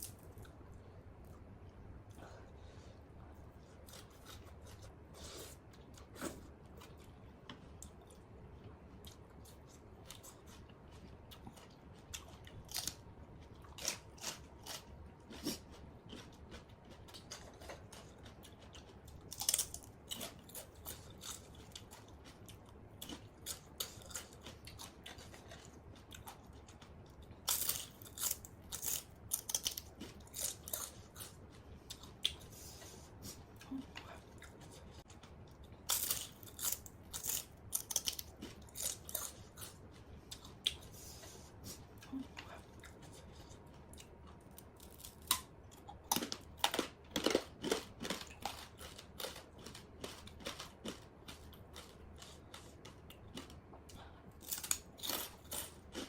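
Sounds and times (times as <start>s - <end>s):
crunchy chewing of raw vegetables: 3.4s - 56.0s.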